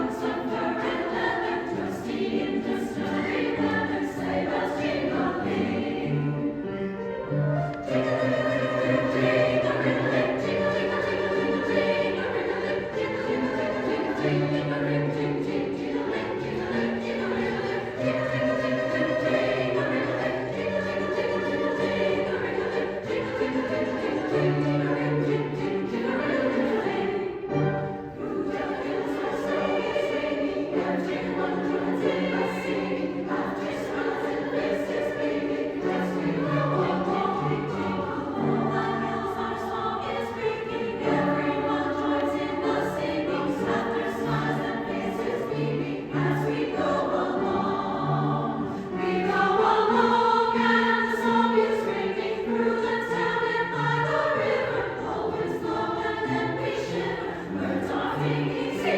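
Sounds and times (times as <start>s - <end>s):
choir singing held notes: 0.0s - 58.9s.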